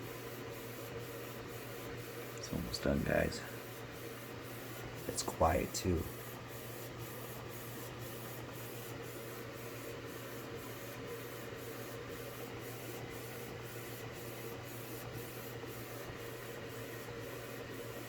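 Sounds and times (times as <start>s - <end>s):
inkjet printer whirring: 0.0s - 18.0s.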